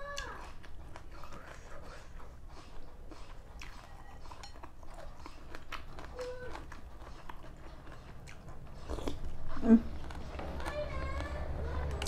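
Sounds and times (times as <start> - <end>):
chewing noodles: 0.0 - 12.0.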